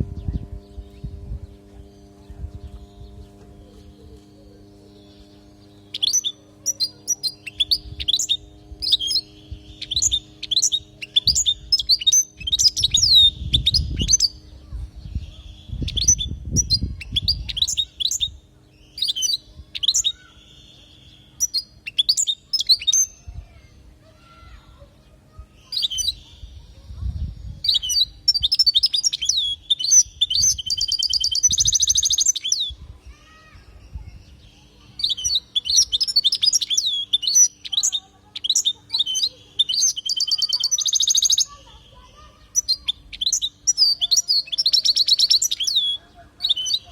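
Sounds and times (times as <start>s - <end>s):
rapid bird trill: 0.0s - 23.9s, 24.5s - 26.8s, 27.4s - 46.9s
goldfinch twittering chirps: 4.8s - 23.3s, 25.6s - 26.8s, 27.5s - 32.7s, 33.7s - 46.9s.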